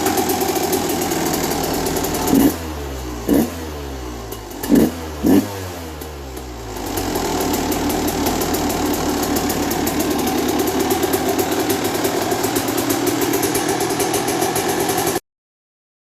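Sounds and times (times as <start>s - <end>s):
two-stroke engine idling: 0.0s - 15.2s.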